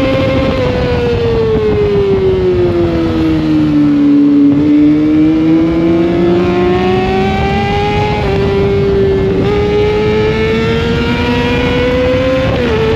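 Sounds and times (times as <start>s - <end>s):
motorcycle engine revving: 0.0s - 12.9s
wind and road noise: 0.0s - 12.9s.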